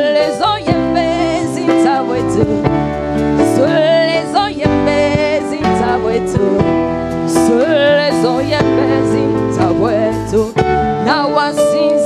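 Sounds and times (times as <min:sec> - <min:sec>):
bending lead melody: 0:00.0 - 0:12.0
keyboard chords: 0:00.0 - 0:12.0.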